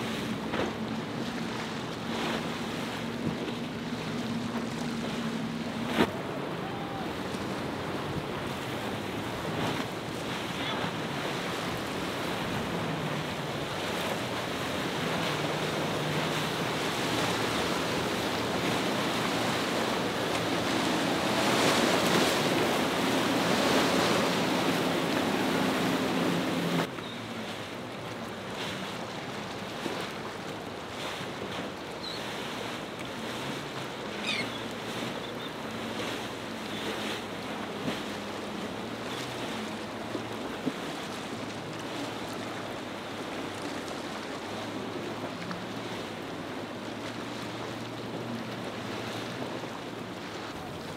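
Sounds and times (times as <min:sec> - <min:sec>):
powerboat engine drone: 0:00.0 - 0:50.9
spray and waves against hulls: 0:00.0 - 0:50.9.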